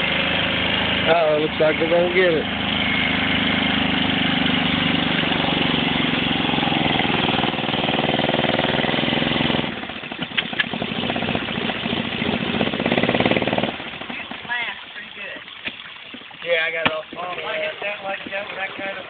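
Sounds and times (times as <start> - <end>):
golf cart engine running: 0.0 - 19.0.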